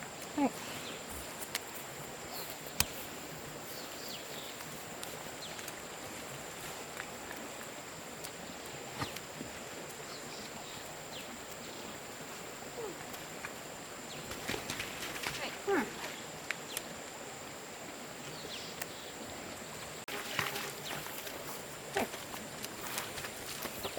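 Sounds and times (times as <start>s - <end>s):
steady background hiss: 0.0s - 23.9s.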